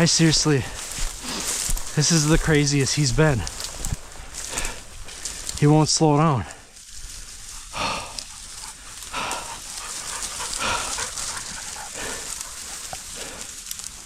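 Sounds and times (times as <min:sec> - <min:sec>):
hard breathing: 0:00.5 - 0:05.6, 0:06.4 - 0:14.0.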